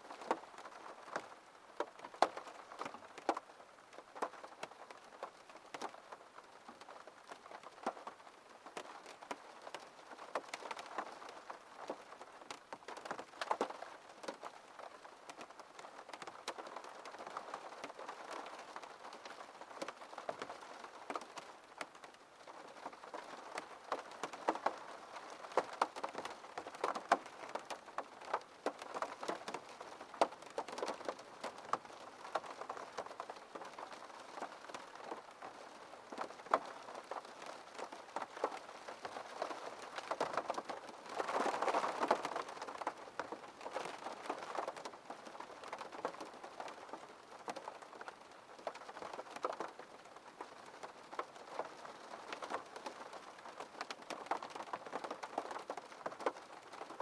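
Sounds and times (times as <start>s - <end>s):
rain pattering on window glass: 0.0s - 57.0s.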